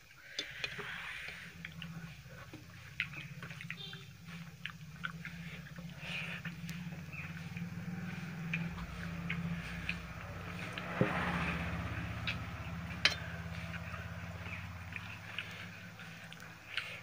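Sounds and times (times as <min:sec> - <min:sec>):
steady low hum: 0:00.0 - 0:17.0
chewing: 0:00.2 - 0:17.0.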